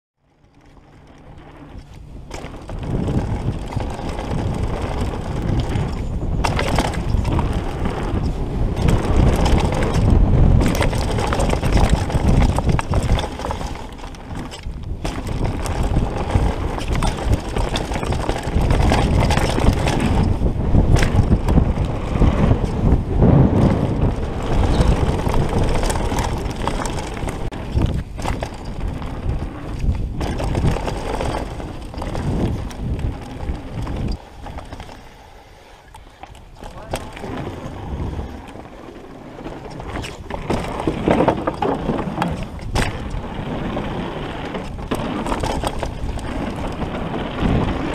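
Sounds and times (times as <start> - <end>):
bike knocking and rattling: 0.2 - 47.9
tyres rolling over dirt: 0.4 - 47.9.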